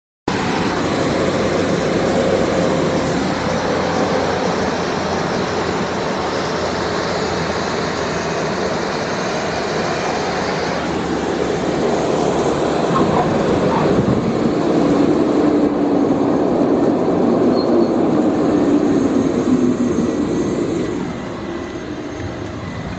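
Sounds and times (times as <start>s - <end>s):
small plane engine in cabin: 0.3s - 22.9s.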